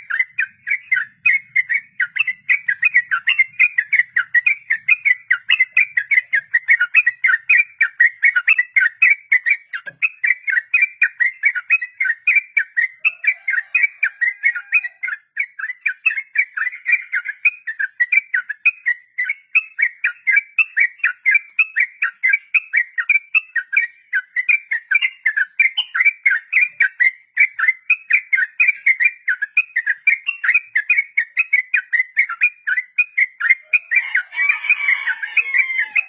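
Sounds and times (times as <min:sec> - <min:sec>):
bird singing chattering notes: 0:00.0 - 0:34.2.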